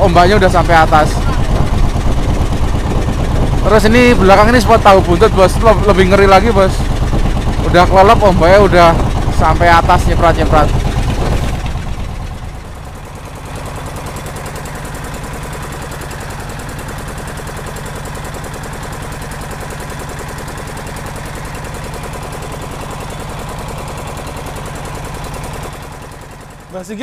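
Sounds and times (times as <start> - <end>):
boat engine chugging: 0.0 - 27.0.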